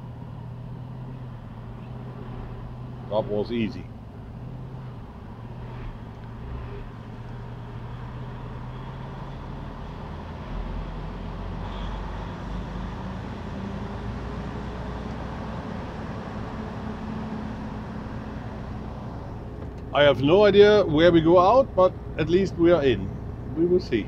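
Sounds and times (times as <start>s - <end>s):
diesel truck engine rumbling: 0.0s - 24.0s.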